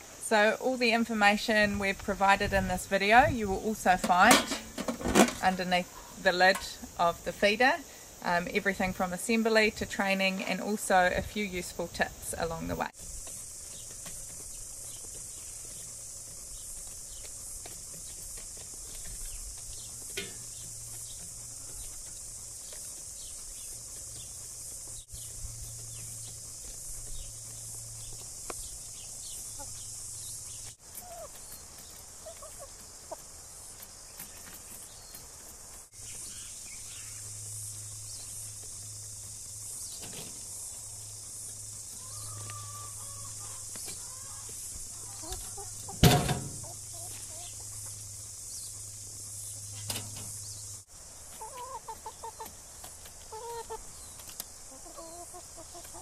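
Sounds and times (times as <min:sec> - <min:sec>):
high insect chorus: 0:00.0 - 0:56.0
chickens clucking: 0:08.2 - 0:50.6, 0:51.2 - 0:56.0.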